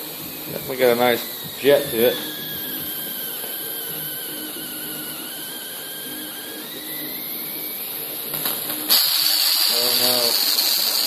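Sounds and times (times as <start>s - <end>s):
torch jet hissing and whistling: 0.0s - 11.0s.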